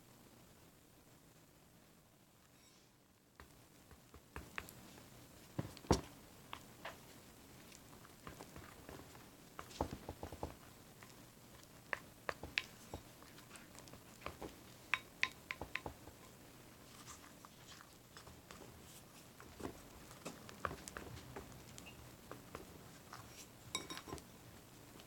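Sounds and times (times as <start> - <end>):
slime being stirred: 3.4 - 25.0.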